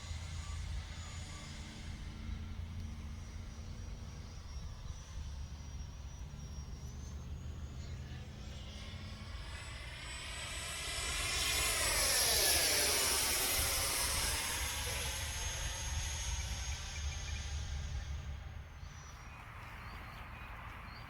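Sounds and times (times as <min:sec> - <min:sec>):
model jet fan whine passing: 0:00.0 - 0:21.0.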